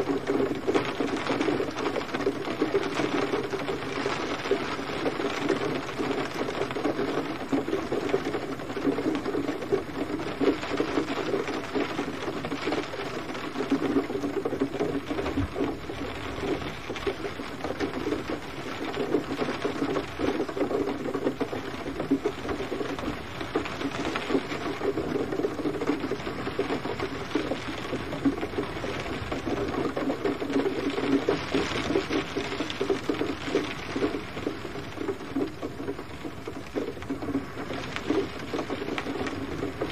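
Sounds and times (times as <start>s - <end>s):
gentle rain pattering: 0.0s - 39.9s.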